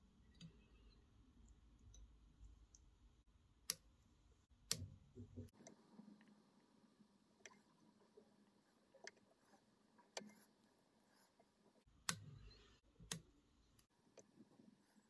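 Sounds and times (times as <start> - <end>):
faint clicks of thread handling: 0.2 - 6.4, 7.4 - 15.0.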